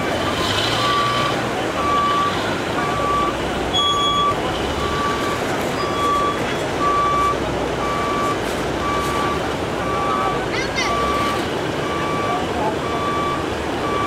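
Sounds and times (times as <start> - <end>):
steady background noise: 0.0 - 14.0
vehicle reversing alarm beeping: 0.0 - 14.0.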